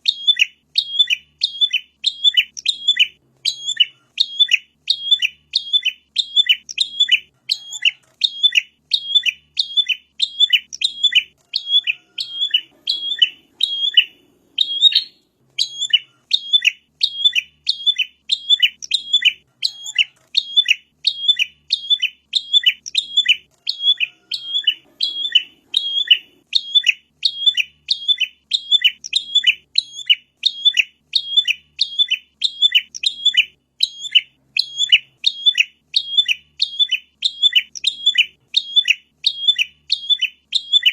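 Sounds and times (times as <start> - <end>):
bird song high sharp chirps: 0.0 - 40.9.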